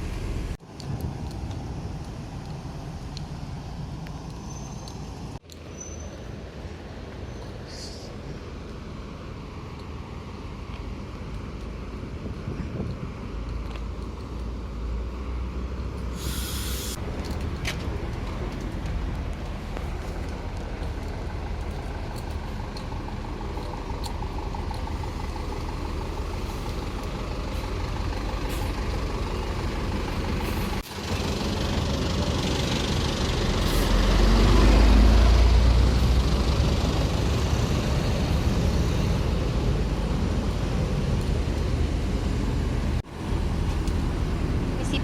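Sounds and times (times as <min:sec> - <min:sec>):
heavy vehicle engine: 0:00.0 - 0:45.0
road traffic rumbling: 0:00.0 - 0:45.0.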